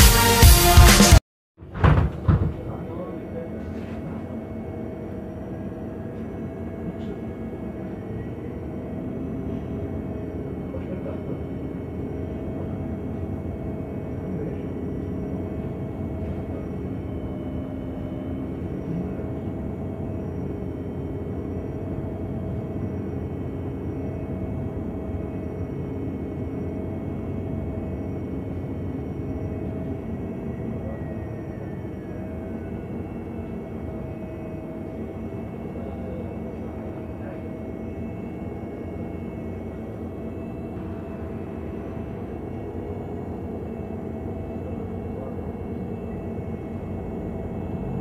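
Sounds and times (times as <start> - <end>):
bus engine running: 2.6 - 48.0
faint steady whine: 2.6 - 48.0.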